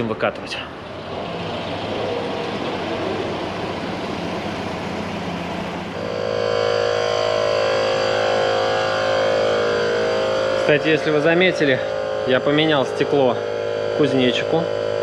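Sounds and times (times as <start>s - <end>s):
electric tyre compressor humming: 0.0s - 15.0s.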